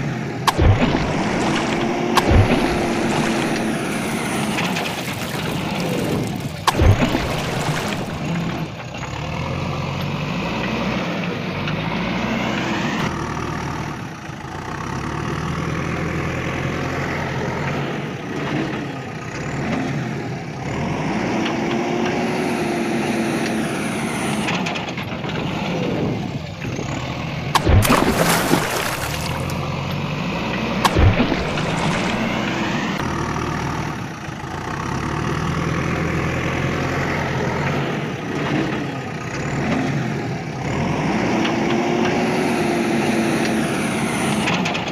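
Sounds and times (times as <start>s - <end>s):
heavy vehicle engine revving: 0.0s - 44.9s.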